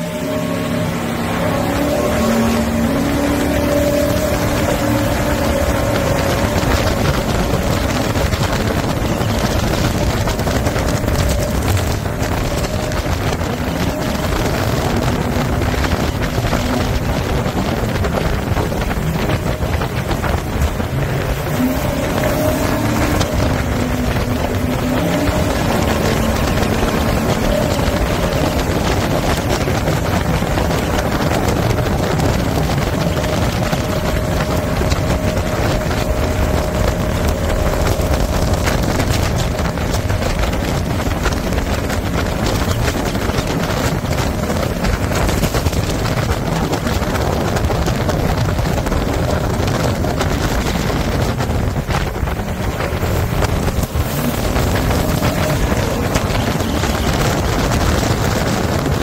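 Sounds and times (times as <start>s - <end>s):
boat engine and water jet: 0.0s - 59.0s
wind buffeting microphone: 0.0s - 59.0s.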